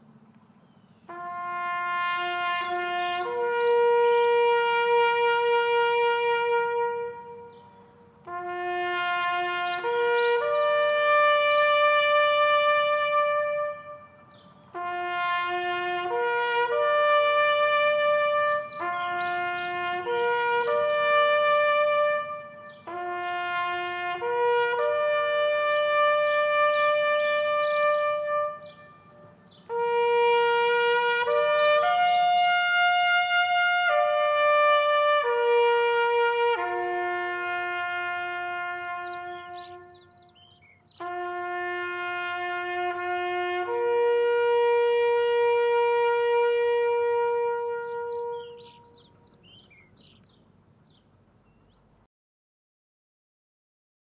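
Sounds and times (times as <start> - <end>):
slow brass melody: 1.0 - 50.2.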